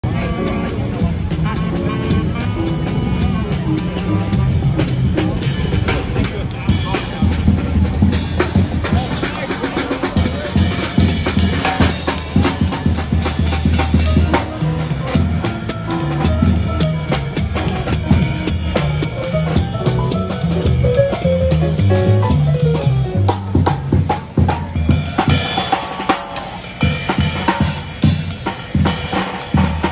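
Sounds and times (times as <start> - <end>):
plucked double bass: 0.0 - 9.2, 9.8 - 25.3
digital piano: 0.0 - 25.6
drum kit played with sticks: 0.0 - 29.9.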